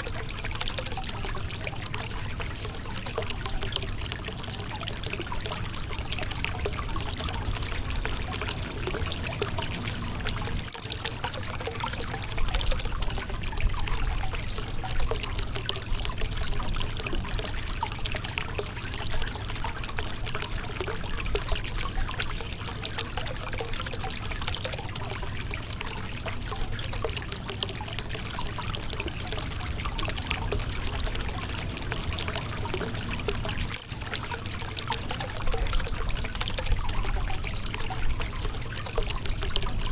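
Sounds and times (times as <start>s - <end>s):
low water rumble: 0.0s - 39.9s
water babbling over rocks: 0.0s - 39.9s.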